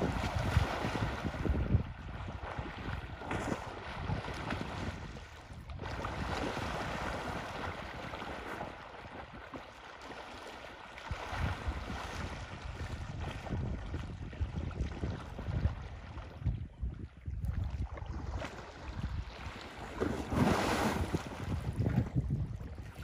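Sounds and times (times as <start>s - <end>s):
wind on microphone: 0.0s - 9.6s, 11.0s - 23.0s
water churning and splashing: 0.0s - 23.0s.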